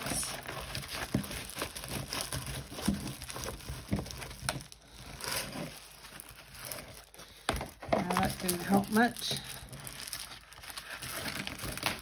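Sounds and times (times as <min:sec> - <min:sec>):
canvas crinkling and rustling: 0:00.0 - 0:12.0.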